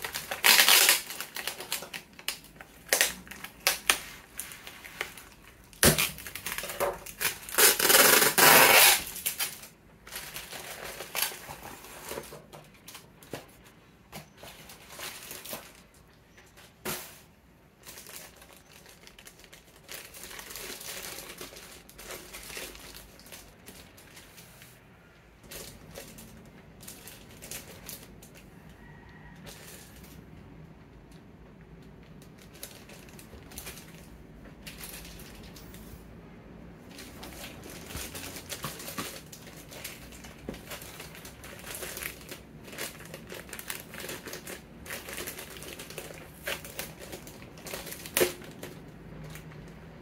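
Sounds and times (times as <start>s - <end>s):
plastic packaging crinkling and tearing: 0.0s - 30.2s, 31.7s - 36.2s, 36.8s - 50.0s.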